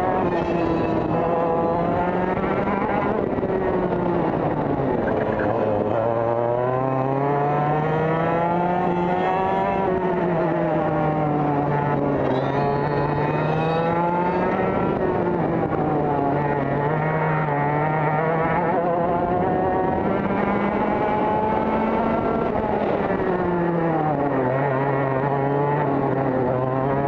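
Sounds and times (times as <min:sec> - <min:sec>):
kart engine revving: 0:00.0 - 0:27.0.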